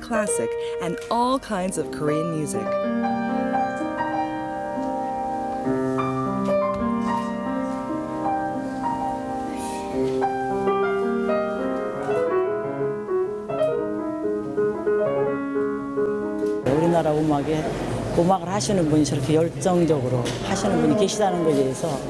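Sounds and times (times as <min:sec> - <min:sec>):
classical piano piece: 0:00.0 - 0:22.0.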